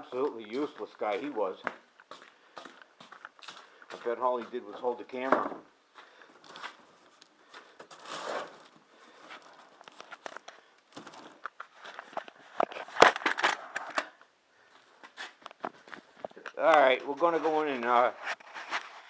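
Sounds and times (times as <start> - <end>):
crinkly rustling: 0.0 - 5.3, 5.9 - 14.0, 14.6 - 19.0.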